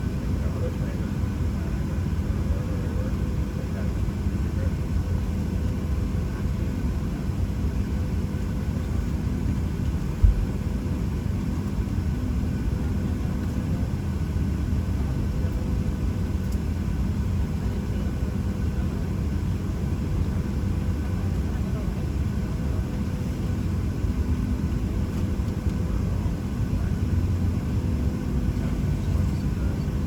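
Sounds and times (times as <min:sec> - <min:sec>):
air-conditioning rumble: 0:00.0 - 0:30.0.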